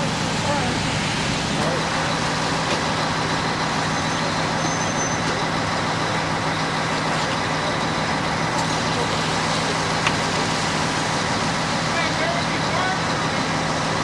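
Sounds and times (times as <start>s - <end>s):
large engine droning: 0.0s - 14.0s.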